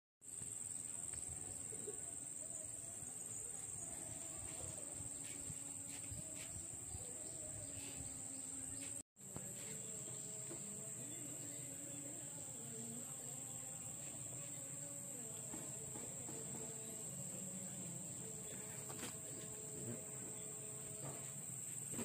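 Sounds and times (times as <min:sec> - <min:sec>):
high-pitched insect drone: 0:00.3 - 0:22.0.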